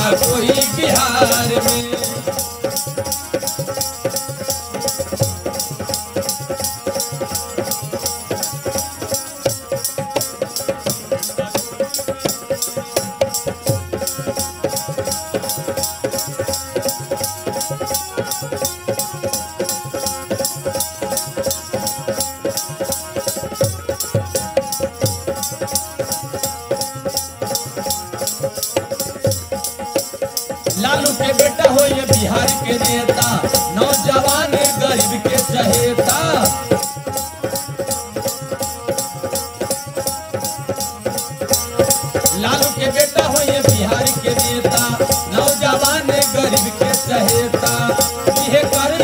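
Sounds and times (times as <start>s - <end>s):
dholak drum rhythm: 0.0s - 49.0s
harmonium holding notes: 0.0s - 49.0s.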